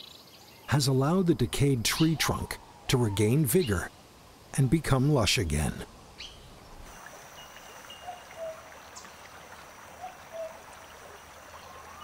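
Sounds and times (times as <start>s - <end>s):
flowing stream water: 0.7s - 12.0s.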